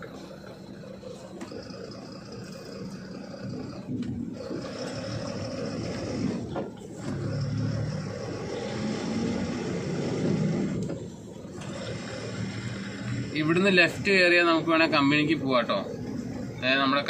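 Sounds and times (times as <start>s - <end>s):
truck engine rumble from cab: 0.0s - 17.0s.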